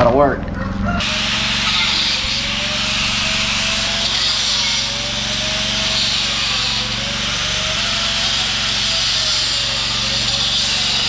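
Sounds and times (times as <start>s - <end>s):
jackhammer breaking concrete: 1.0s - 11.0s.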